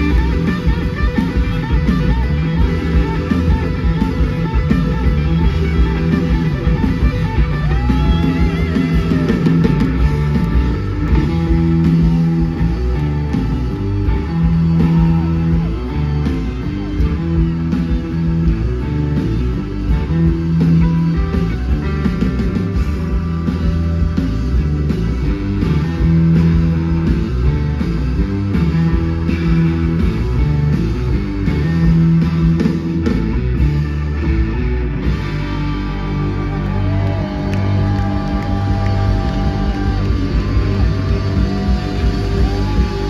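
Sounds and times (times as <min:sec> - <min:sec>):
blues rock band playing: 0:00.0 - 0:43.0.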